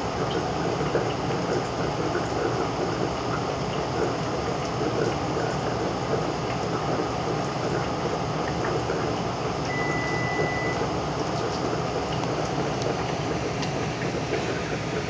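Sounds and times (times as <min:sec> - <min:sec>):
aquarium water running: 0:00.0 - 0:15.0.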